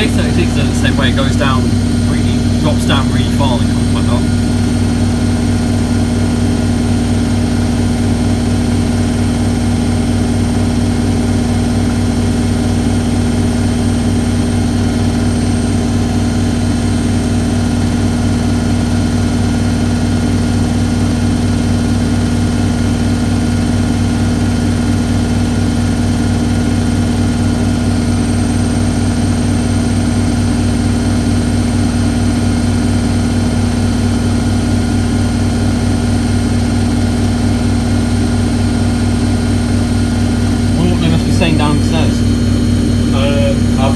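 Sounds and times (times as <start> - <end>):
washing machine spinning: 0.0 - 41.6.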